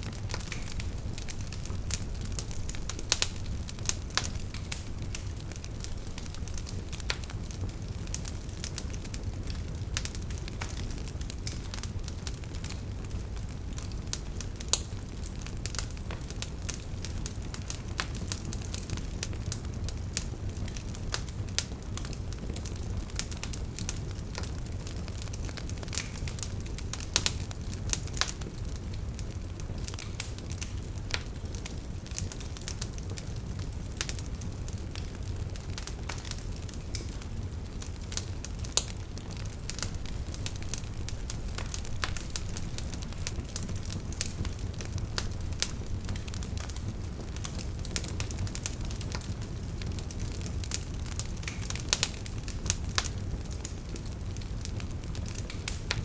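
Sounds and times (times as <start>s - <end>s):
campfire crackling and popping: 0.0s - 56.0s
low rumble of flames: 0.0s - 56.0s.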